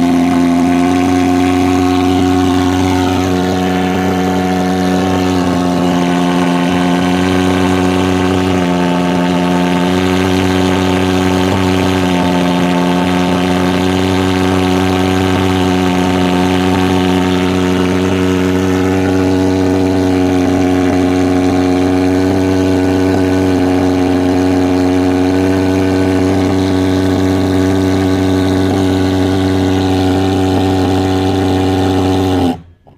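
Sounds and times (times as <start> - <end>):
pulse-jet fogging machine buzzing: 0.0 - 32.8.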